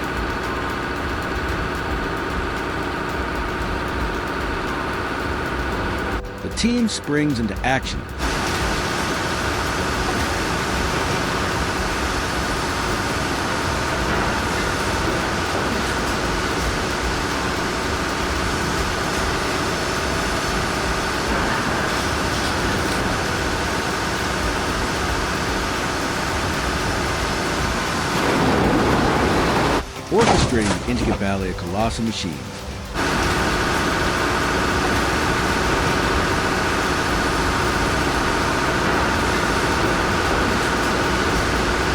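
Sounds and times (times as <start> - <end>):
heavy engines running: 0.0 - 41.9.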